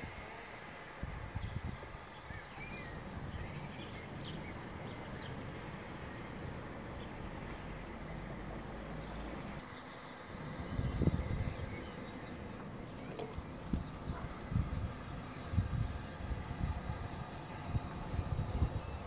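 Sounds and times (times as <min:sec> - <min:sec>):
small birds chirping: 0:01.0 - 0:19.0.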